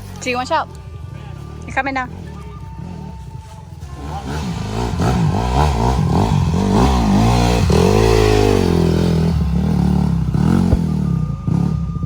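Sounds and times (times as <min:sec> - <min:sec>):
dirt bike engine revving: 0:01.3 - 0:12.0.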